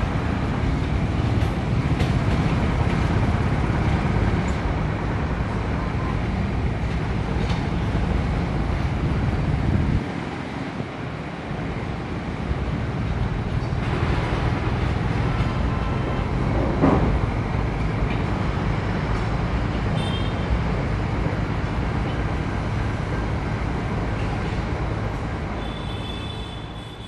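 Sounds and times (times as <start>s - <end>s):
train rumbling over rails: 0.0s - 27.0s.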